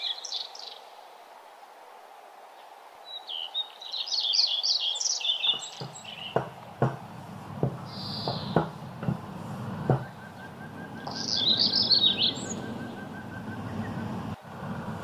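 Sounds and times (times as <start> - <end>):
small birds chirping: 0.0 - 0.9, 3.0 - 15.0.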